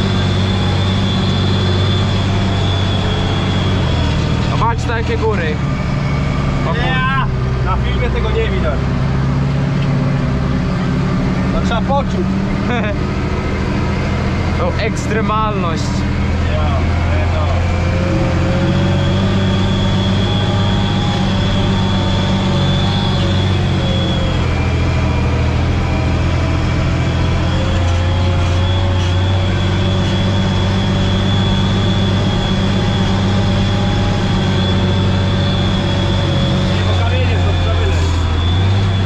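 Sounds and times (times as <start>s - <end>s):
high-pitched whine: 0.0s - 39.0s
tractor engine drone: 0.0s - 39.0s.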